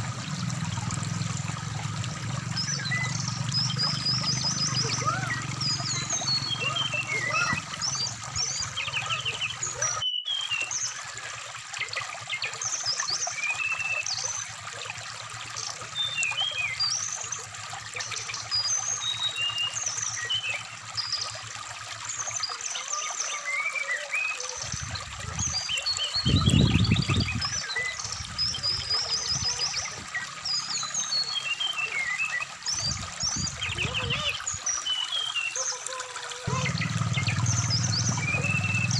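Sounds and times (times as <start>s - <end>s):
trickling stream: 0.0s - 38.9s
bird chirps and trills: 2.3s - 14.6s, 15.5s - 38.9s.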